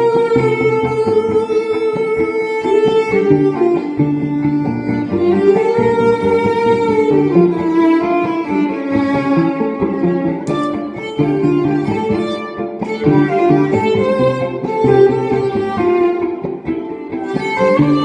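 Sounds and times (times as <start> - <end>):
bowed violin sliding notes: 0.0 - 18.0
plucked string accompaniment: 0.0 - 18.0.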